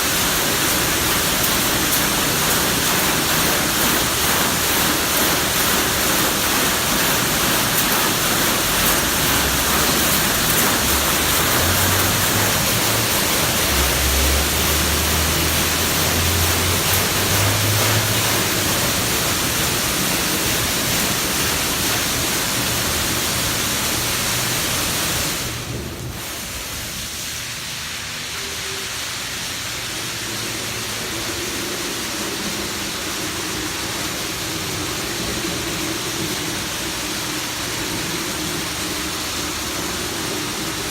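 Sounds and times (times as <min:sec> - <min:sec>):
water jets spraying car: 0:00.0 - 0:40.9.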